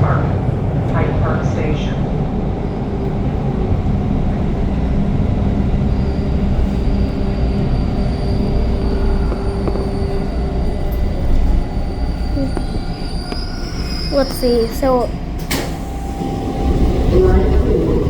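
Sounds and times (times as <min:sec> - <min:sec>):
subway train rumble: 0:00.0 - 0:18.0.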